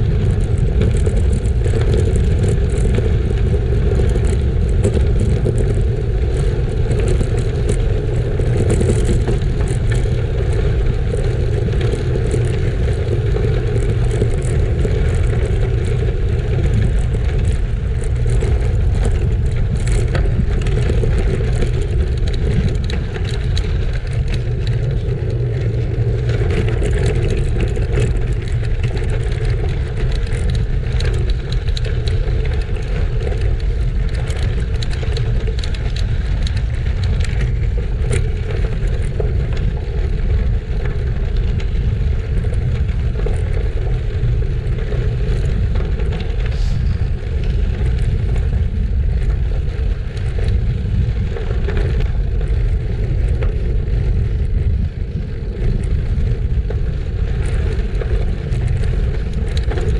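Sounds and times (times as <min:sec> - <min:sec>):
bike tyres on gravel: 0:00.0 - 0:59.9
wind buffeting microphone: 0:00.0 - 0:59.9.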